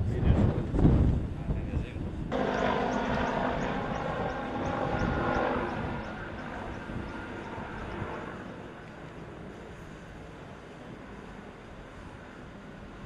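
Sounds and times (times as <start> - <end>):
helicopter running: 2.1 - 13.0.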